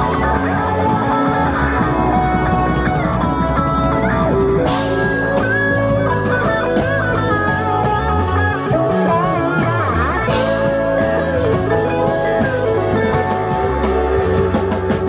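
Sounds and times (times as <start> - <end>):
electric guitar lead: 0.0 - 15.0
rock band playing: 0.0 - 15.0.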